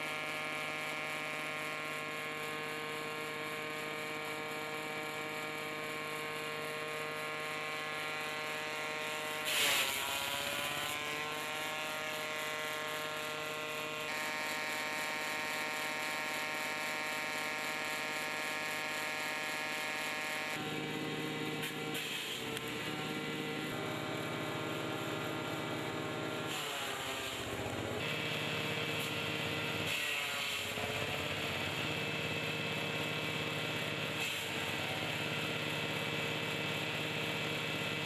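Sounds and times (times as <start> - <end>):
chipper machine humming: 0.0 - 38.0.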